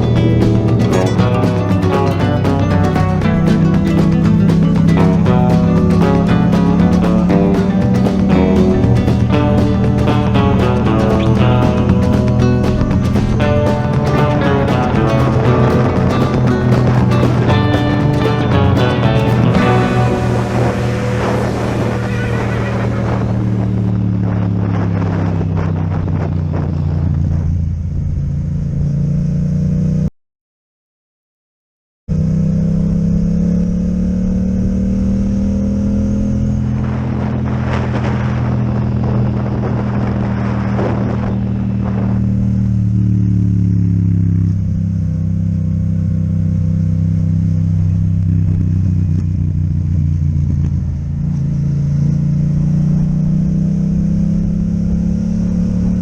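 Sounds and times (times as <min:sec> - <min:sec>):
motorcycle engine running: 0:00.0 - 0:30.1, 0:32.1 - 0:56.0
wind noise on microphone: 0:00.0 - 0:30.1, 0:32.1 - 0:56.0.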